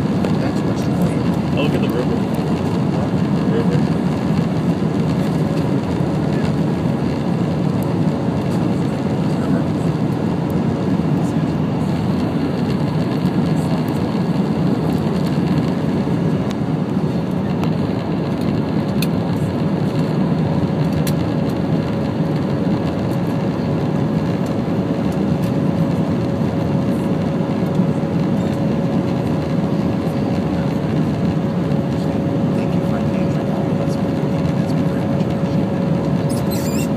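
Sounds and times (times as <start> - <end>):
jet engine and airflow roar: 0.0 - 36.9.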